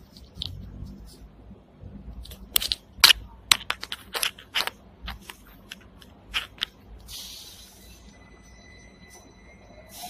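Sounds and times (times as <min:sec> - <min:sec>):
faint low rumble: 0:00.0 - 0:10.0.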